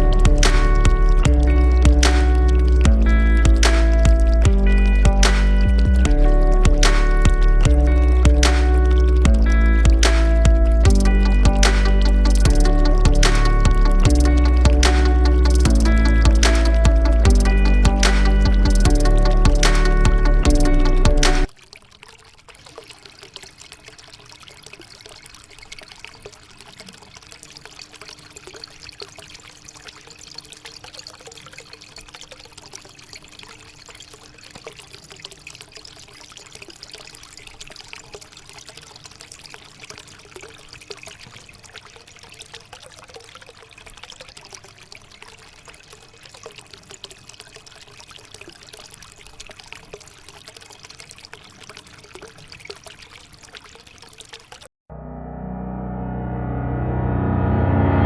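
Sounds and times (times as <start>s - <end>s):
fountain water trickling: 0.0s - 54.7s.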